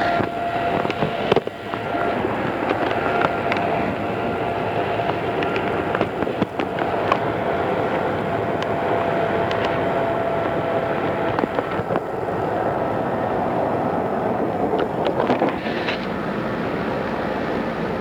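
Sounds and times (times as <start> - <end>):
faint steady hum: 0.0 - 18.0
train wheels rumbling on rail: 0.0 - 18.0.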